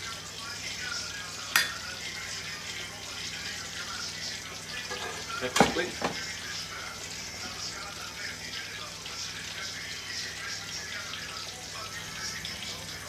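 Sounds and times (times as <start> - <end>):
slices frying in hot oil: 0.0 - 13.0.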